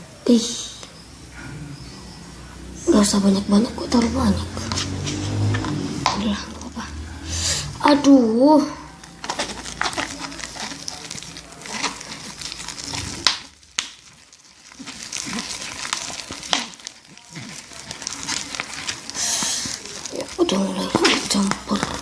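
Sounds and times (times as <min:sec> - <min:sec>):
slime squishing: 0:01.8 - 0:22.0.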